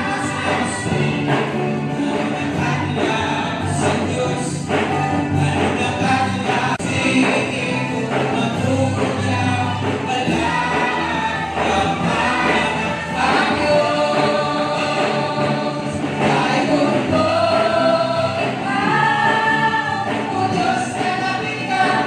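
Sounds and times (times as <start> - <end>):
group singing over loudspeaker: 0.0 - 22.0.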